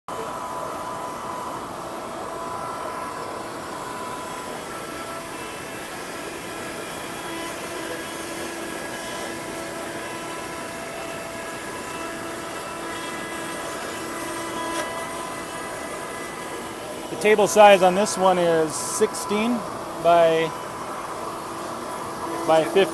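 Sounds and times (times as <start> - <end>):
cnc router carving wood: 0.1 - 22.9.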